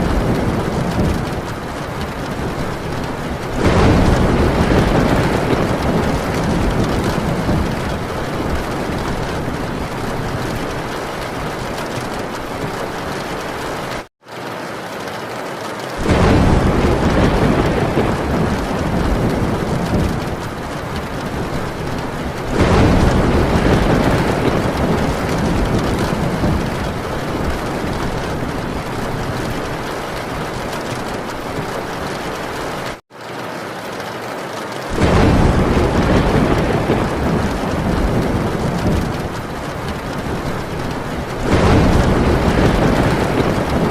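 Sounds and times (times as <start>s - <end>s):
thunder rumbling: 0.0s - 14.1s, 16.0s - 33.0s, 34.9s - 43.9s
heavy rain on a tin roof: 0.0s - 43.9s.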